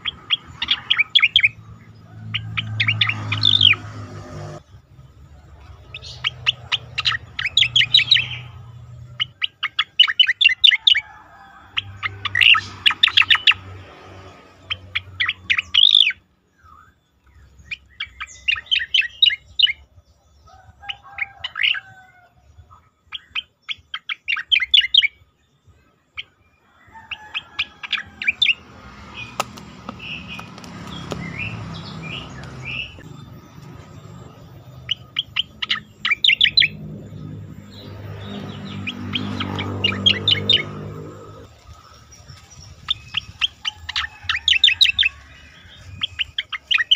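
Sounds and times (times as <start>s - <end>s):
songbird chirping: 0.0s - 46.9s.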